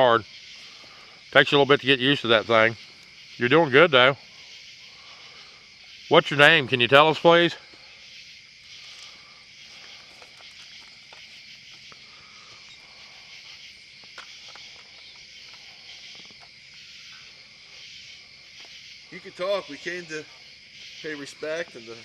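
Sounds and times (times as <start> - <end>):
crickets and katydids buzzing: 0.0 - 22.0.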